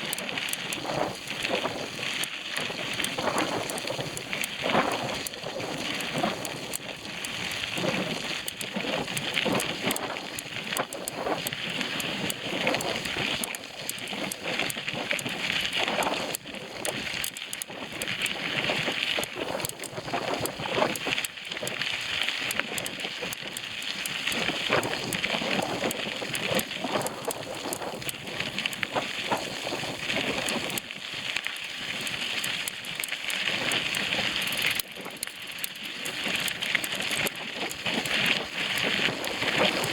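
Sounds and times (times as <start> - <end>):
bicycle tyres rolling on dirt: 0.0 - 39.9
bike clicks and knocks: 0.0 - 39.9.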